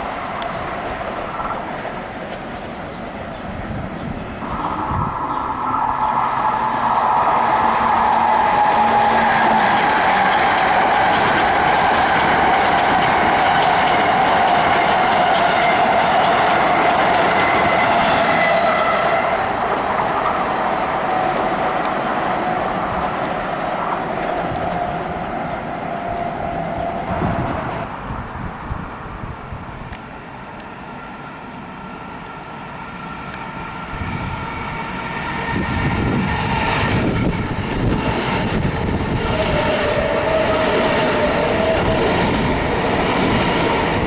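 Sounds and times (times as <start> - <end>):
train passing close by: 0.0 - 44.0.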